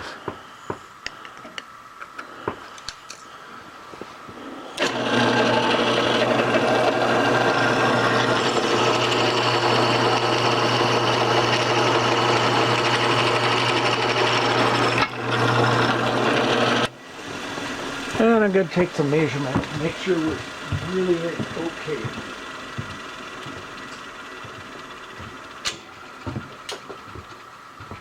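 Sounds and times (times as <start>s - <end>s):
drill press cutting metal: 4.8s - 28.0s.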